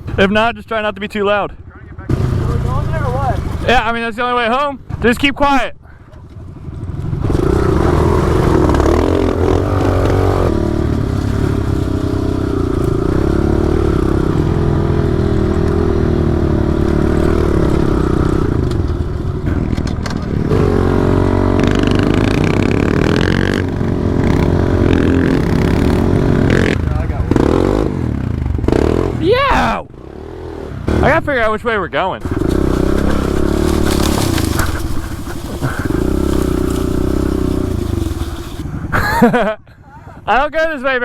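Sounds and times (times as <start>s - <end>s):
pit bike engine revving: 2.0s - 5.1s, 6.3s - 39.6s.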